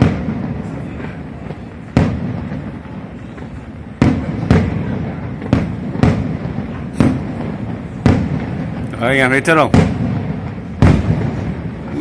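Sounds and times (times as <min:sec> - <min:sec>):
fireworks bangs: 0:00.0 - 0:12.0
low rumble of fireworks bursts: 0:00.0 - 0:12.0.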